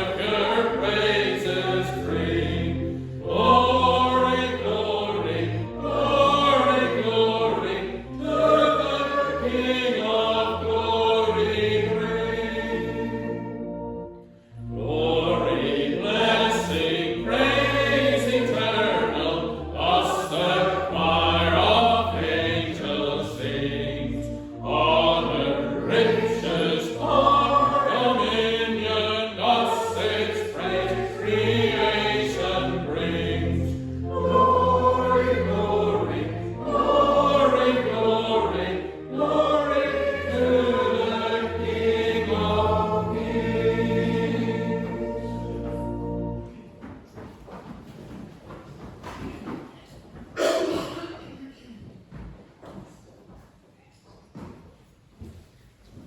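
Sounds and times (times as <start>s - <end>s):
congregation singing a hymn: 0.0s - 47.0s
instrumental accompaniment: 0.0s - 47.0s.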